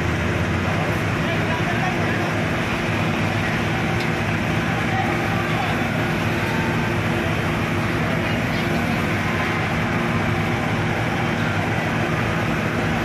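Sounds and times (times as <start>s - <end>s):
constant rushing noise: 0.0s - 13.0s
engine running steadily: 0.0s - 13.0s.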